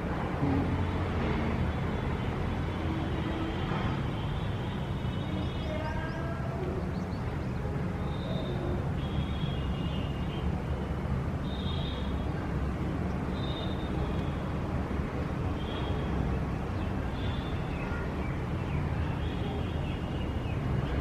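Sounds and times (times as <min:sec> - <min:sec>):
distant traffic rumble: 0:00.0 - 0:21.0.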